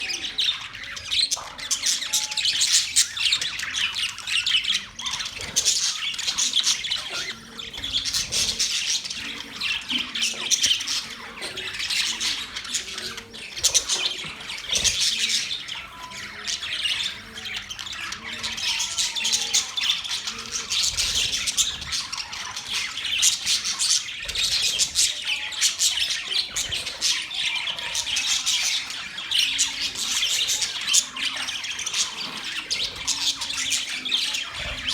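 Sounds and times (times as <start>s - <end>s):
budgerigars chattering and squawking: 0.0s - 34.9s.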